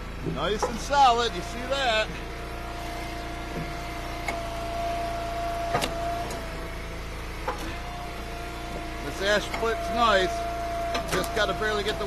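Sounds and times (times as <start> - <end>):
wood splitter humming: 0.0 - 12.0.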